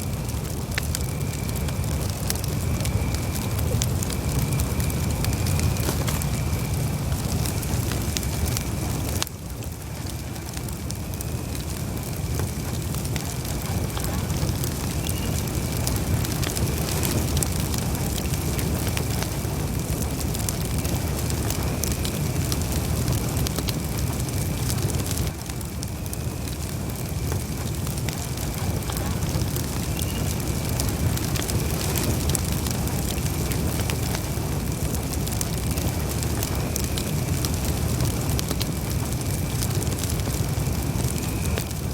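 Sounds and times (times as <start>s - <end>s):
low rumble of flames: 0.0s - 41.9s
wood crackling and popping: 0.0s - 41.9s.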